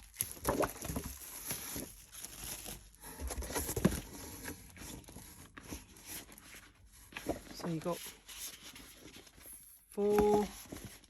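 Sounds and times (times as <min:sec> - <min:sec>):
paper rustling and crinkling: 0:00.0 - 0:11.0
sharp paper crackle: 0:00.0 - 0:11.0.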